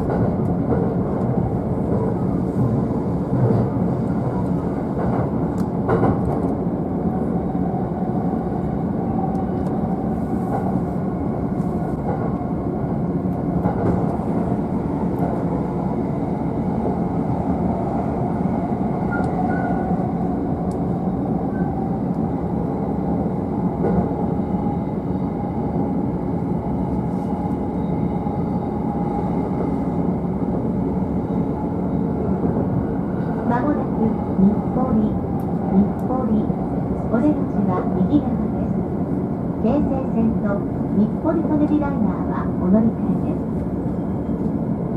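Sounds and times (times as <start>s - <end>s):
train rumble: 0.0s - 44.9s.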